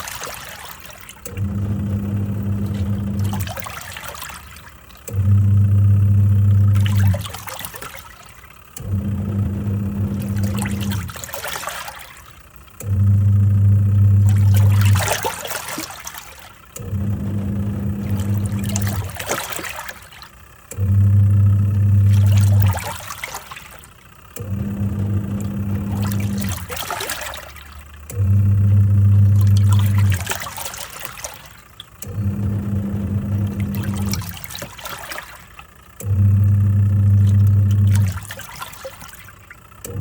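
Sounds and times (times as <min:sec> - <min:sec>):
washing machine motor humming: 0:00.0 - 0:40.0
water sloshing and swirling: 0:00.0 - 0:40.0.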